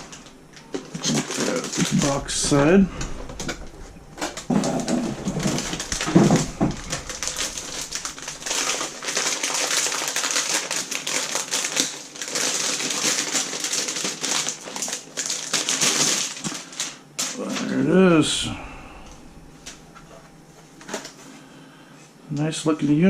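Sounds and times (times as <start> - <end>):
packaging rustling and crinkling: 0.0 - 21.4.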